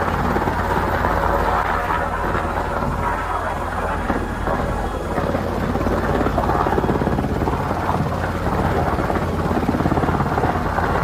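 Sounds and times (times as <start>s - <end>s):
helicopter rotor chopping: 0.0s - 11.0s.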